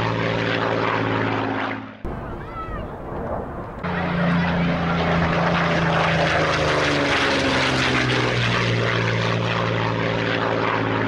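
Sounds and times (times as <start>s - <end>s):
propeller aircraft passing: 0.0s - 11.0s.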